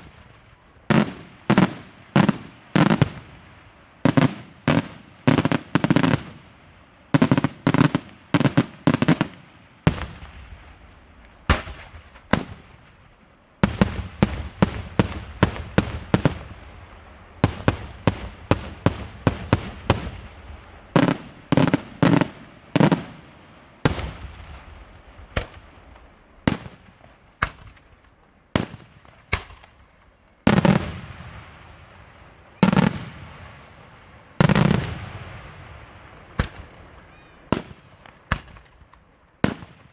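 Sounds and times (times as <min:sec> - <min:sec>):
fireworks bursting and banging: 0:00.0 - 0:39.9.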